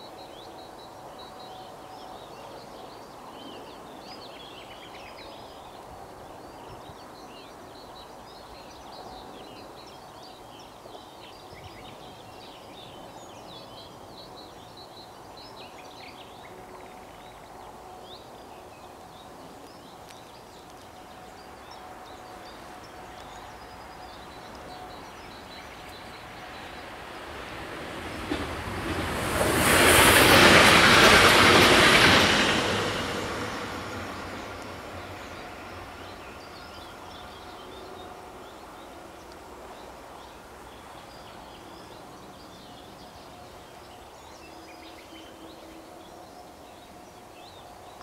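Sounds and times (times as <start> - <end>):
outdoor background hiss: 0.0 - 48.0
songbirds chirping: 0.0 - 48.0.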